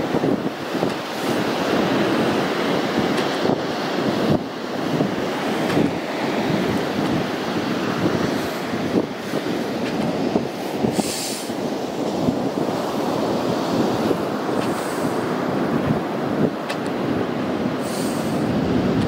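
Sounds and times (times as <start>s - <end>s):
wind gusting across microphone: 0.0s - 19.0s.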